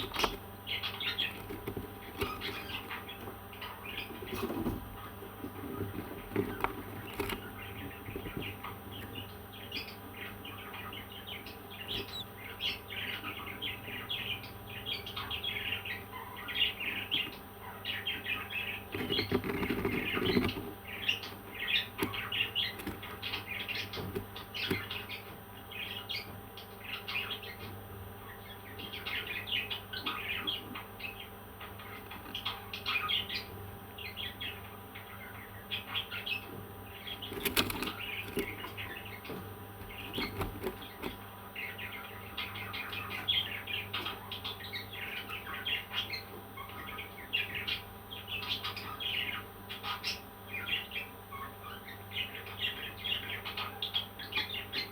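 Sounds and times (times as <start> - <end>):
parrots chirping: 0.0 - 54.9.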